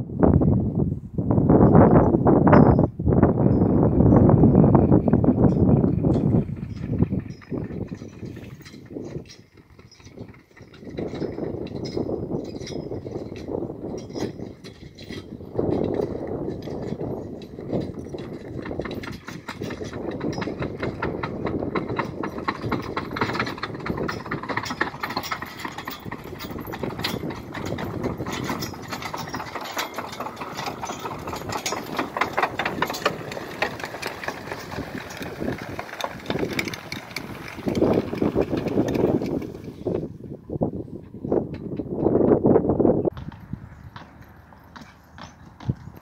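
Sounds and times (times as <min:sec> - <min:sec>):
manure spreader rattling: 0:03.6 - 0:40.7, 0:41.3 - 0:46.0.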